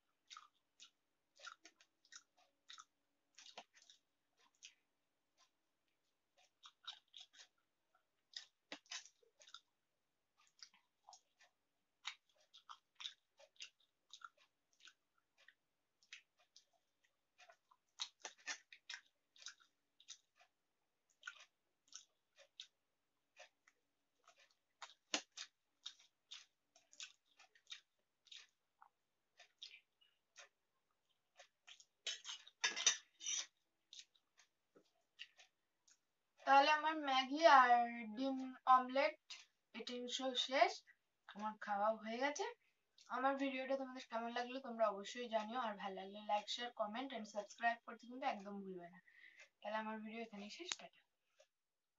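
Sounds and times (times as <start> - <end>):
faint chewing: 0.0 - 36.5, 38.3 - 39.8, 42.4 - 44.2, 47.5 - 49.6.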